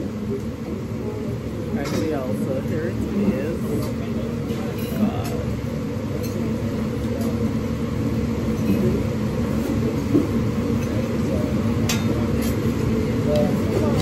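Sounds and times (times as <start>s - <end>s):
indistinct diners' voices: 0.0s - 14.0s
restaurant low rumble: 0.0s - 14.0s.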